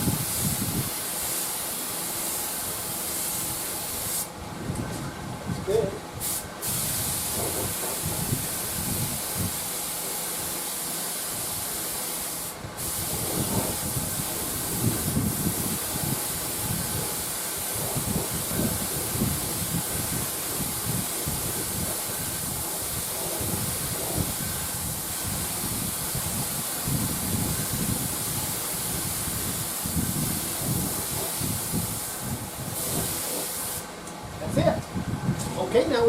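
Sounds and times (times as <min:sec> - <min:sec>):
spray finish hissing: 0:00.0 - 0:04.4, 0:05.7 - 0:34.0.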